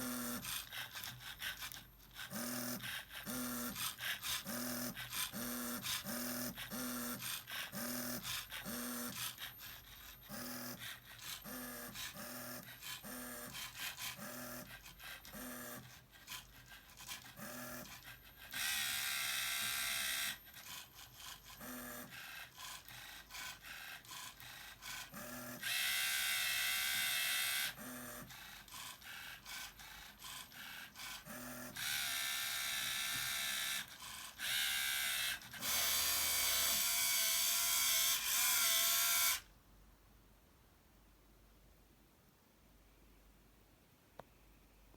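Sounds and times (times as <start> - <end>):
small electric motors whirring: 0.0 - 39.5.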